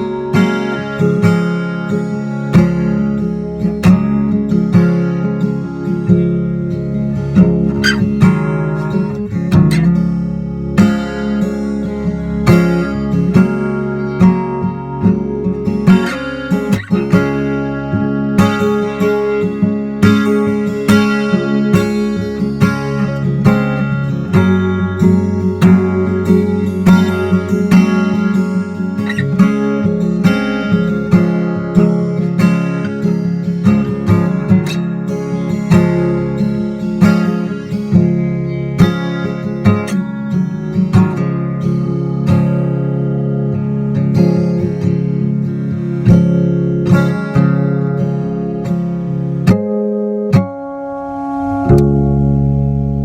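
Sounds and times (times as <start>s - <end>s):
acoustic guitar strumming chords: 0.0s - 53.0s.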